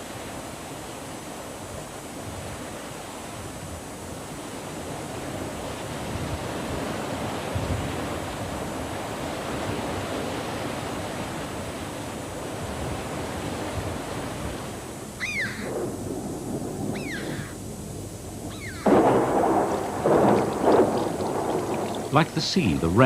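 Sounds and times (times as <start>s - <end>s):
surf washing against shore: 0.0s - 23.0s.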